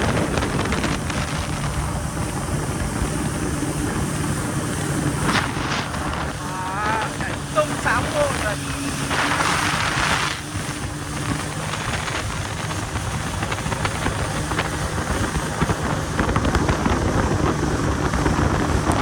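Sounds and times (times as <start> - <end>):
jet ski engine running: 0.0 - 19.0
wind buffeting microphone: 0.0 - 19.0.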